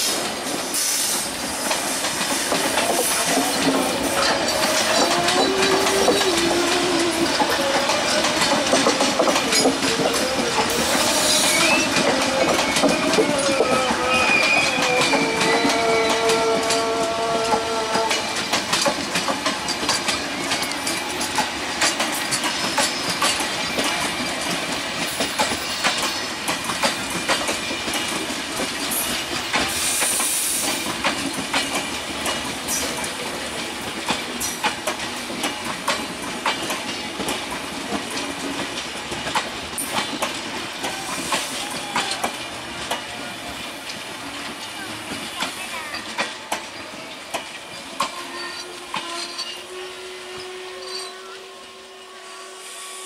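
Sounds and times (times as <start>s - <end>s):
train wheels clicking over rail joints: 0.0s - 49.8s.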